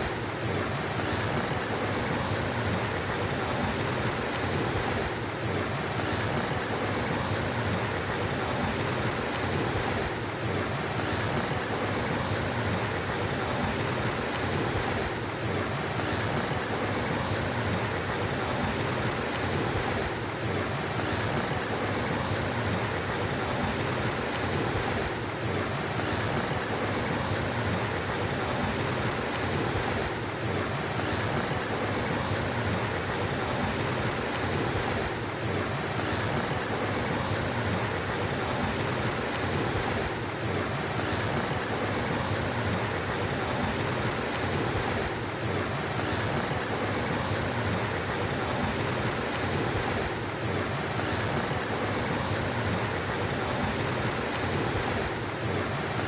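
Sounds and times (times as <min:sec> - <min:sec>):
flowing stream water: 0:00.0 - 0:56.0.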